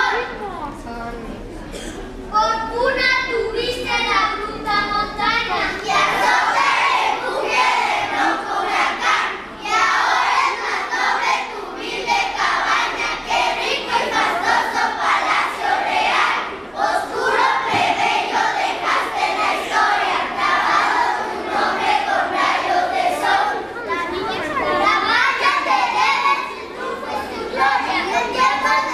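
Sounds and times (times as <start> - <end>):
children reciting in unison: 0.0 - 0.4, 1.7 - 28.9.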